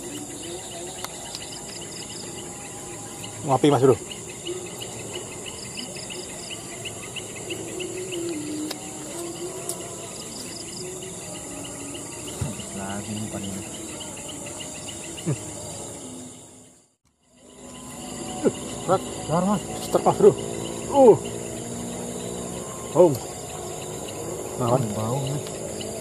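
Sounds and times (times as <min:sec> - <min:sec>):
insect chorus chirping: 0:00.0 - 0:26.0.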